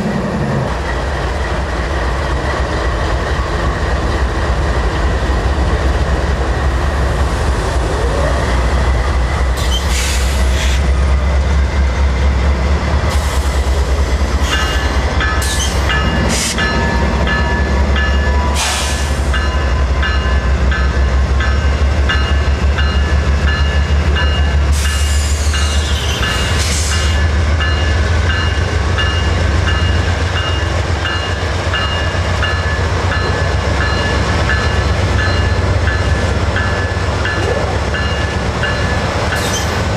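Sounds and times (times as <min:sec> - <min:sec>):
locomotive engine rumble: 0:00.0 - 0:39.9.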